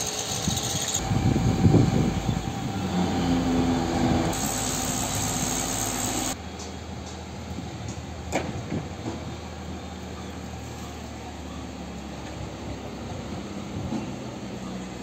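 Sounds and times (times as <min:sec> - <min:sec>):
crane diesel engine running: 0:00.0 - 0:15.0.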